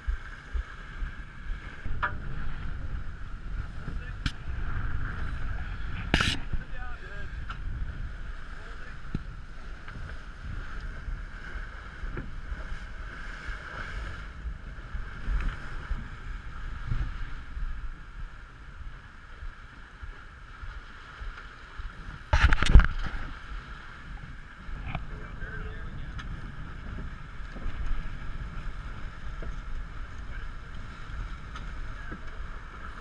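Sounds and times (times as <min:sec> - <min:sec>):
water rushing along hull: 0:00.0 - 0:33.0
wind buffeting microphone: 0:00.0 - 0:33.0.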